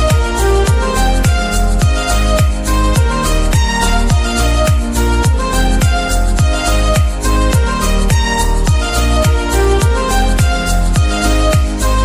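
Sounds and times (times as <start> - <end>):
deep kick drum beat: 0.0 - 12.0
sustained instrumental notes: 0.0 - 12.0.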